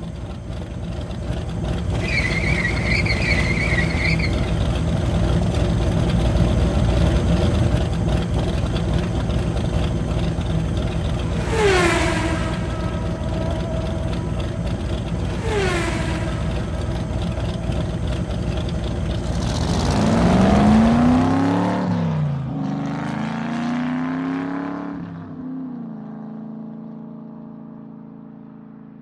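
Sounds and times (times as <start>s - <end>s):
car engine revving: 0.0s - 25.2s.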